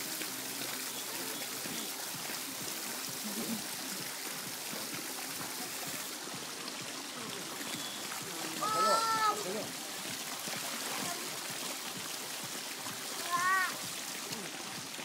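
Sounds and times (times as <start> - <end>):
pool water washing: 0.0 - 15.0.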